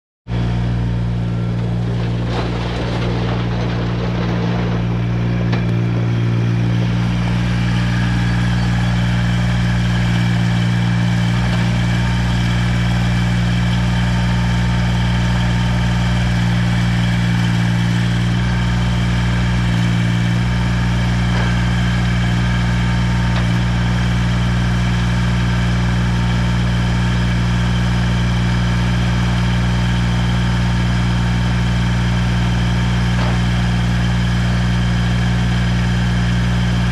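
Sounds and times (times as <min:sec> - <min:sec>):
tractor diesel engine running: 0:00.2 - 0:36.9.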